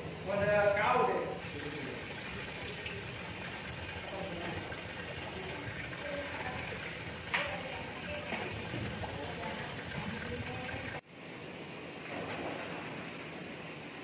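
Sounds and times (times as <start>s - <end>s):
mash boiling in a vat: 0.0s - 14.0s.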